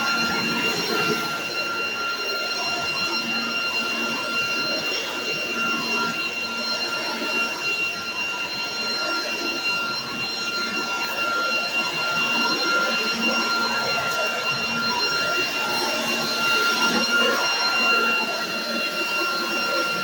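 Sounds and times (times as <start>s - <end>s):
leaf blower running: 0.0s - 20.0s.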